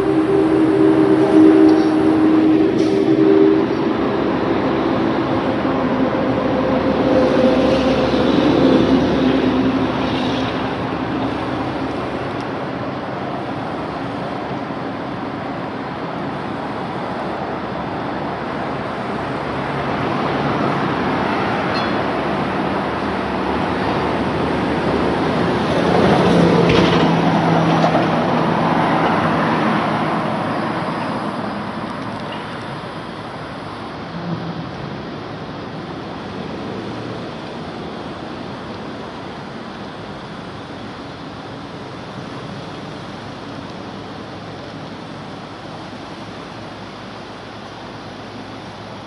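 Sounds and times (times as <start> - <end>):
vehicles passing: 0.0 - 43.0
road traffic: 0.0 - 49.0.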